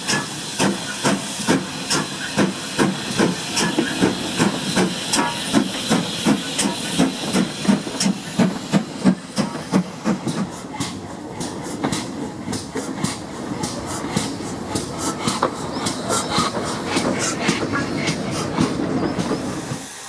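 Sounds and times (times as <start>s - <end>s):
loud hiss of steam: 0.0s - 20.0s
steam locomotive chuffing: 0.0s - 20.0s.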